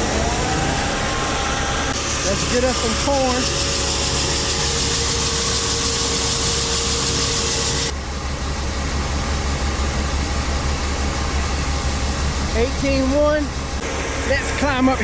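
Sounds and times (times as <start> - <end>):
machinery low hum: 0.0 - 15.0
steady whine: 0.0 - 15.0.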